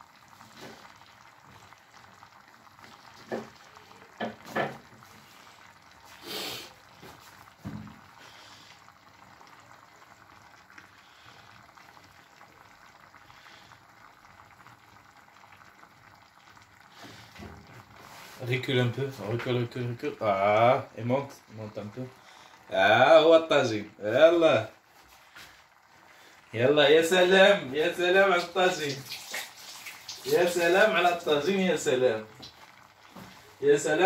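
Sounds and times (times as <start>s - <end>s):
pot simmering with low hiss: 0.0s - 34.0s.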